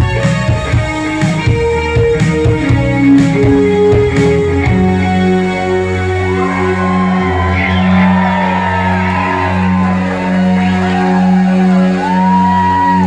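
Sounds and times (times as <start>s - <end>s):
new wave band playing live: 0.0s - 13.0s.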